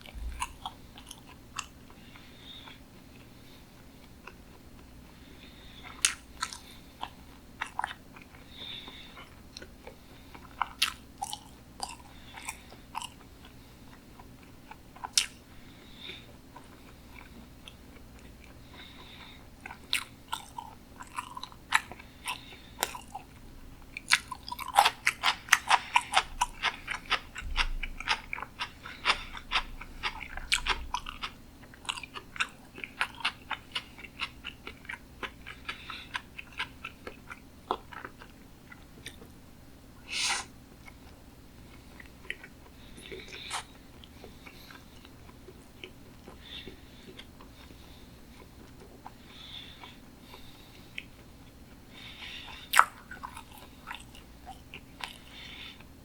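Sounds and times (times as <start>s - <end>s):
chewing with wet mouth clicks: 0.0s - 39.4s, 40.8s - 55.8s.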